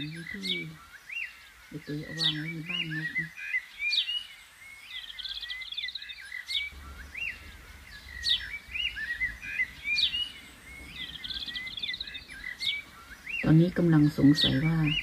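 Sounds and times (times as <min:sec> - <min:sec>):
small songbirds singing: 0:00.0 - 0:15.0.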